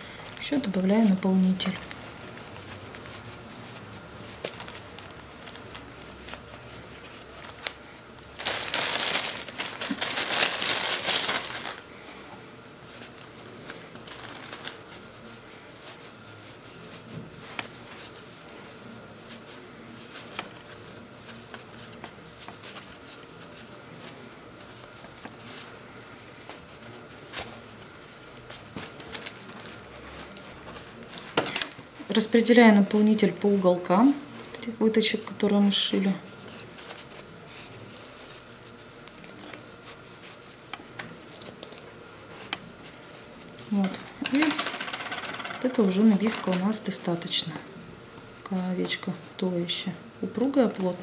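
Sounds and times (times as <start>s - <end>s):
soft rustling of stuffing: 0.0s - 51.0s.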